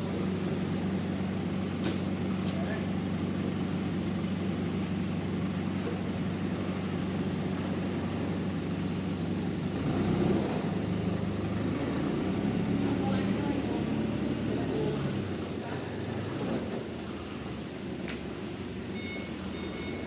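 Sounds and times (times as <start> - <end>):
sawmill machinery hum: 0.0 - 20.0.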